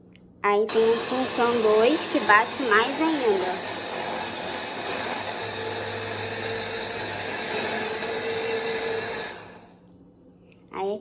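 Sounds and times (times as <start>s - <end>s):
hand blender motor whining: 0.7s - 9.7s.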